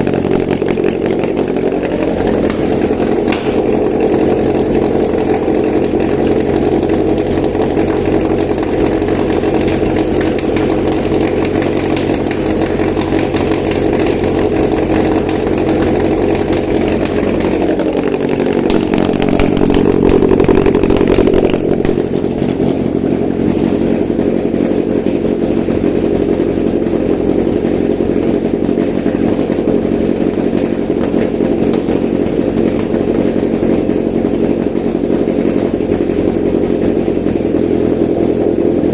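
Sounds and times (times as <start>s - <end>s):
petrol engine running: 0.0s - 38.9s.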